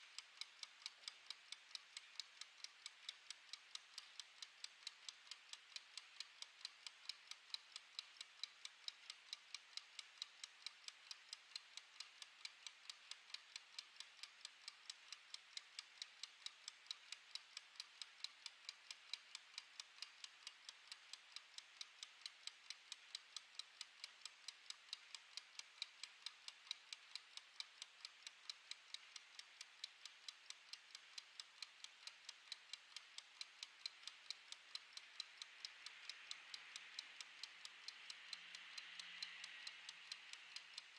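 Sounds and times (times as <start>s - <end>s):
clockwork timer ticking: 0.0s - 40.9s.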